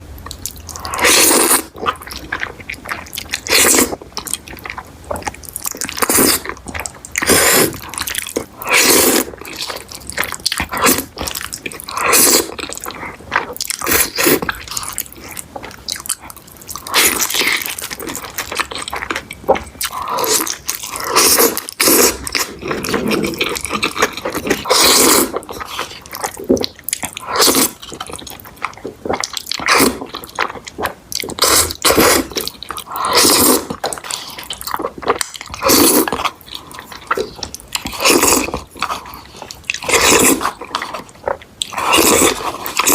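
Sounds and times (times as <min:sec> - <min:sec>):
wet chewing: 0:00.2 - 0:42.9.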